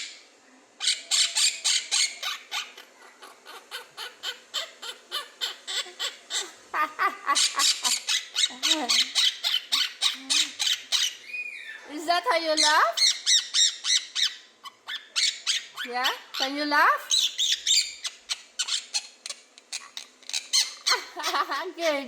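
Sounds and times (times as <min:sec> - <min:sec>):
parrot chirping: 0:00.8 - 0:22.0.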